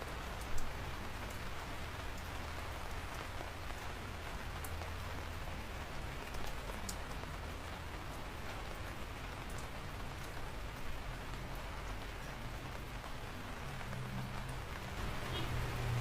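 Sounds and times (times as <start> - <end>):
raindrops ticking: 0.0 - 16.0
steady rain hiss: 0.0 - 16.0.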